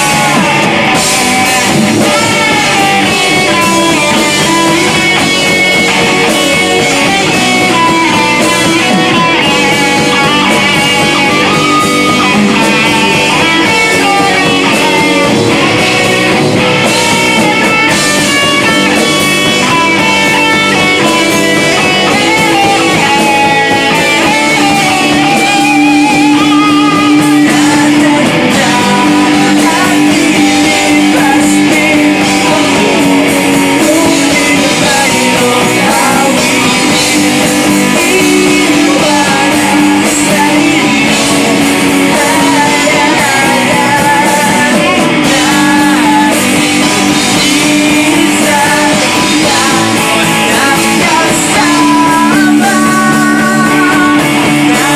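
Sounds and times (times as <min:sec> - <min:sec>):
live rock band playing: 0:00.0 - 0:54.9
man singing: 0:00.0 - 0:54.9.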